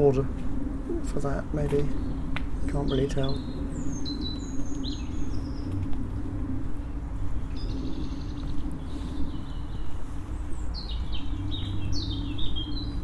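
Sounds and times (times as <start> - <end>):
small songbirds singing: 0.8 - 5.9, 6.7 - 13.0.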